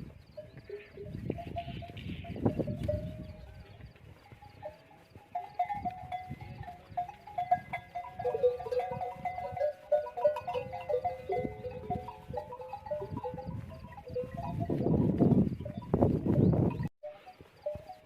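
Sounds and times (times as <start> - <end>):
camel bells clanking: 0.4 - 18.0.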